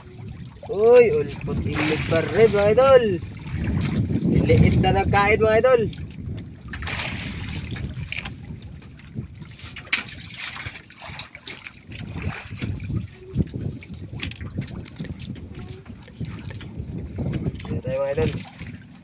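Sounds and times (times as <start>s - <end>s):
water lapping against boat hull: 0.0s - 19.0s
wind buffeting microphone: 0.0s - 19.0s.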